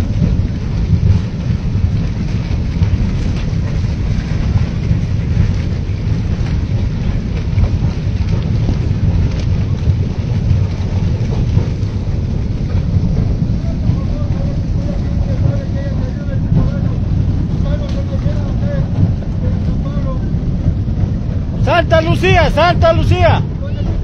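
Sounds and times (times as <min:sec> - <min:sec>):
debris flow rumbling and hissing: 0:00.0 - 0:24.0.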